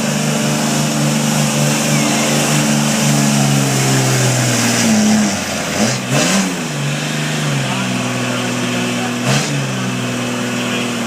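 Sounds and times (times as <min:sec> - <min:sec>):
engine running at high revs: 0:00.0 - 0:11.0.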